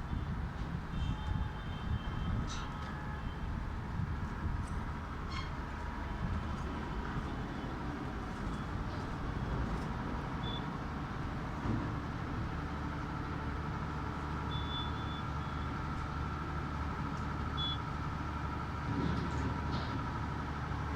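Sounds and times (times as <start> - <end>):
engine-like rumble: 0.0 - 20.9.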